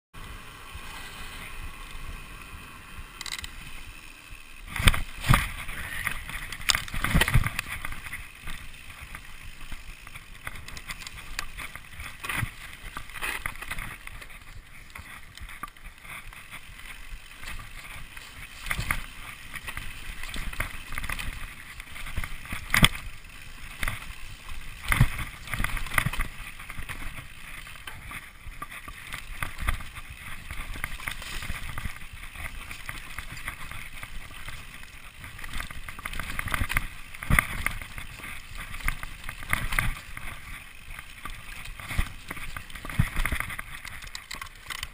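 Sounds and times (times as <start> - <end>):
bike tyre and wind noise: 0.1 - 44.9
bike knocking and rattling: 0.2 - 44.9.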